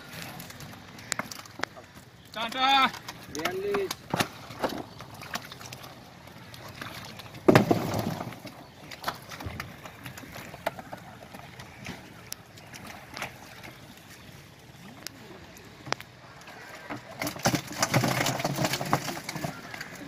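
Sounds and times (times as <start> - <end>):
water sloshing in plastic drums: 0.0 - 20.0.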